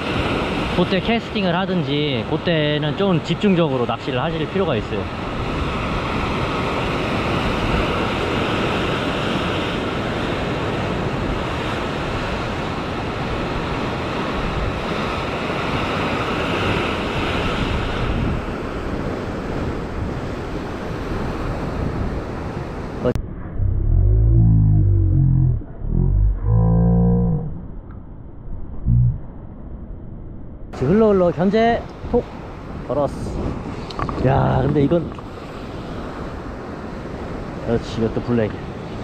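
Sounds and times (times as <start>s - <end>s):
wind rumbling on microphone: 5.2s - 30.8s, 31.9s - 37.6s.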